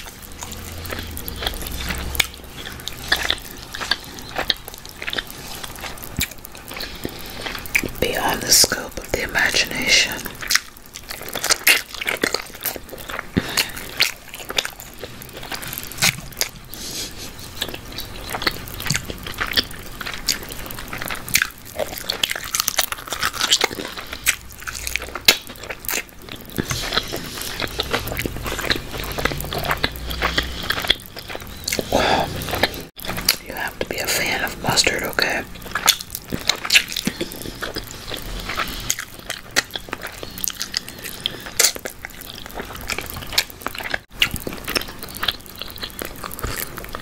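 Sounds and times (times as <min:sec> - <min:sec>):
person chewing meat: 0:00.0 - 0:47.0.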